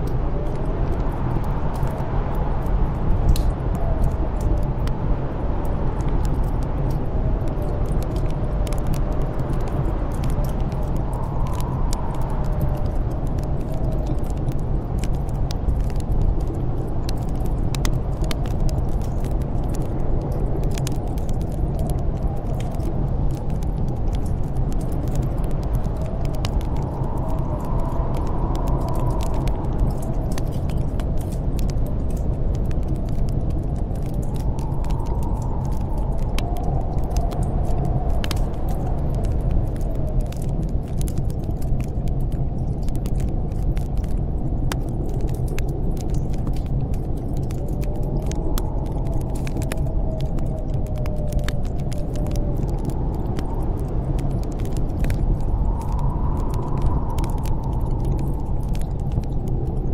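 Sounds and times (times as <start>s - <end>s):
howling storm wind: 0.0s - 59.9s
wood fire crackling: 0.0s - 59.9s.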